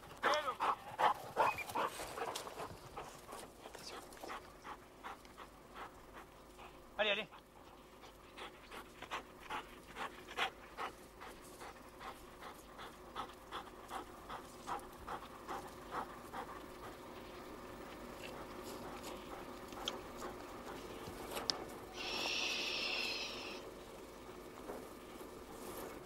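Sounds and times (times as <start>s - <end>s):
dog panting quickly: 0.0s - 22.1s.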